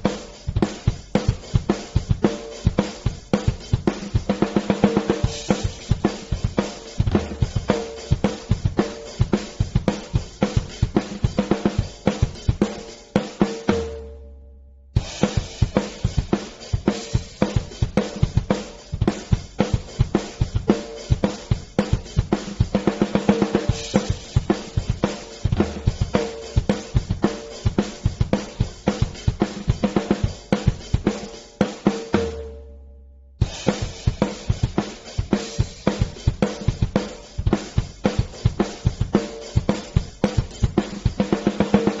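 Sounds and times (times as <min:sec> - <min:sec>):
drum-led backing music: 0:00.0 - 0:14.2, 0:15.0 - 0:32.6, 0:33.4 - 0:42.0.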